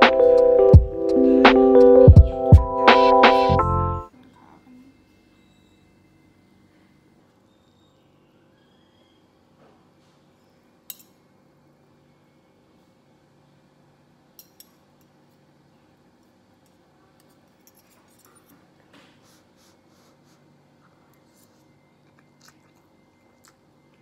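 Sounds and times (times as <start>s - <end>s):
quiet room hum: 0.0s - 24.0s.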